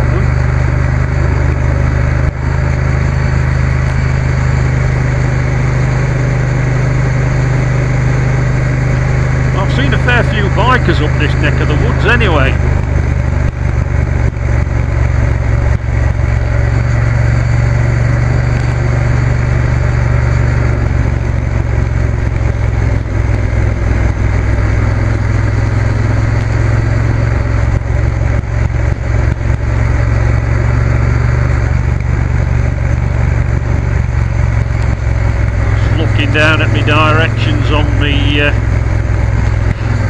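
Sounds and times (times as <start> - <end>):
motorcycle engine drone: 0.0 - 40.0
road noise: 0.0 - 40.0.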